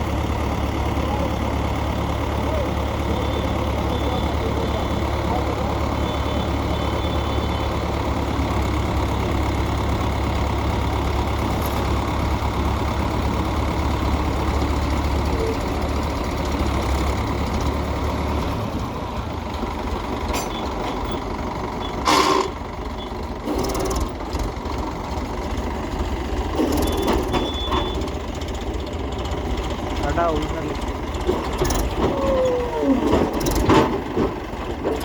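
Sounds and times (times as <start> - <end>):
heavy diesel engine rumbling: 0.0 - 35.0.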